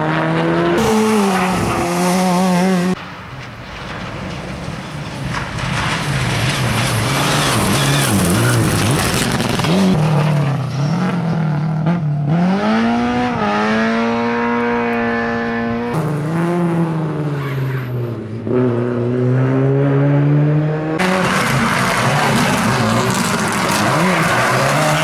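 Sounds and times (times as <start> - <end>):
rally car engine revving high: 0.0 - 3.0, 6.6 - 25.0.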